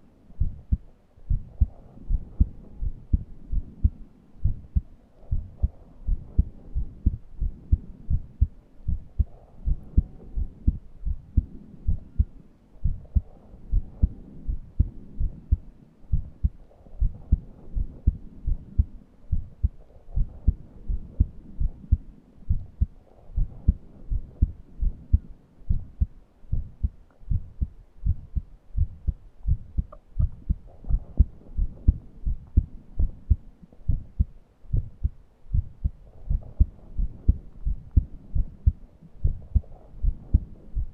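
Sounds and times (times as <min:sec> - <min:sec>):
heartbeat thumps: 0:00.4 - 0:40.9.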